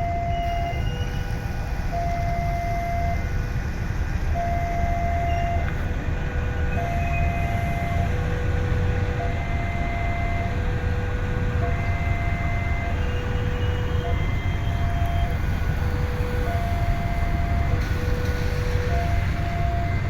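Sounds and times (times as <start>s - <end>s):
two-tone electronic warning signal: 0.0s - 3.4s, 4.3s - 5.7s, 6.6s - 20.0s
train rumbling: 0.0s - 20.0s.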